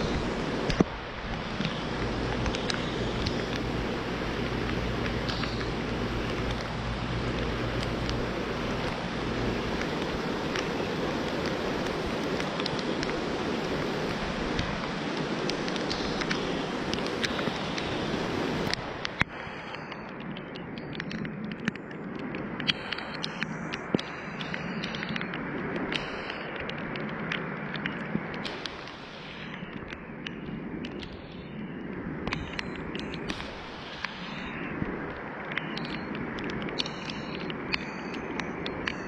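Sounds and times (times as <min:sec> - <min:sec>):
low wind rumble: 0:00.0 - 0:39.0
wind and rain rushing: 0:00.0 - 0:39.0.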